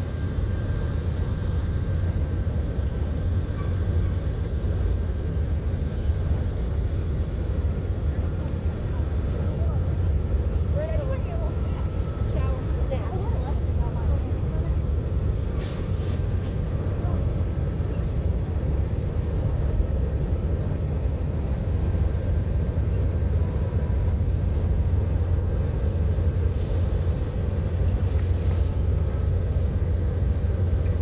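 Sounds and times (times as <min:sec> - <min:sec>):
freight train rumbling on bridge: 0:00.0 - 0:31.0.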